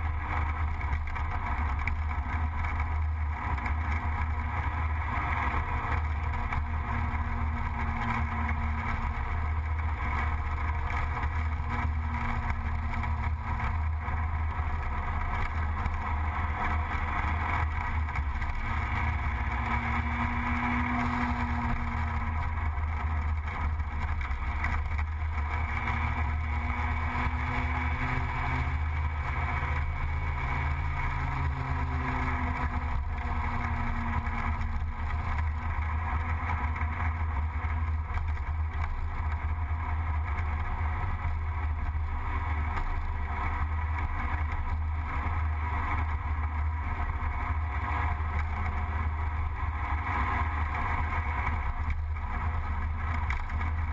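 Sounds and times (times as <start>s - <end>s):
scooter engine running: 0.0s - 53.9s.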